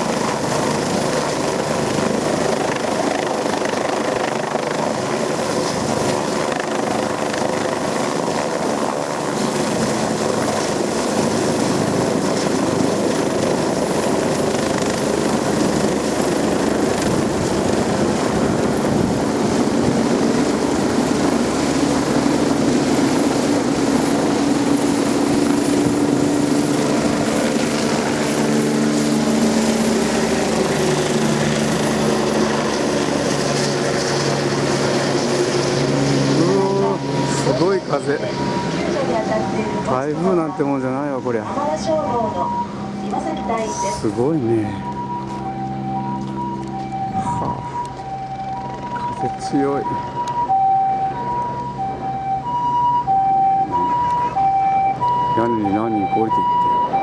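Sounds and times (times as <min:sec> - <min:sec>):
helicopter rotor and engine: 0:00.0 - 0:57.0
rotor downwash wind: 0:00.0 - 0:57.0.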